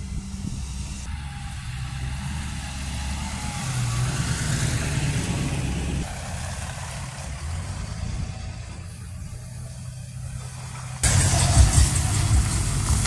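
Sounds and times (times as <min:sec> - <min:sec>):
steady low drone: 0:00.0 - 0:13.0
truck engines idling: 0:00.0 - 0:13.0.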